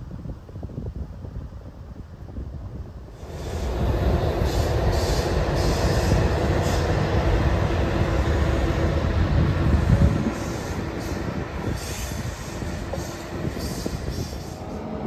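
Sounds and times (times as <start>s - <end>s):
train wheel and rail rumble: 0.0s - 15.0s.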